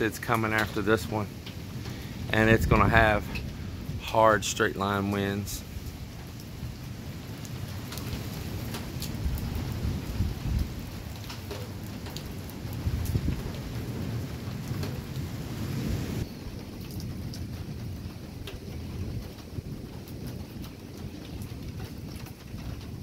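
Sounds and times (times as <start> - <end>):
close raindrop ticks: 0.0 - 23.0
steady rain: 0.0 - 23.0
thunder rumbling: 0.0 - 23.0.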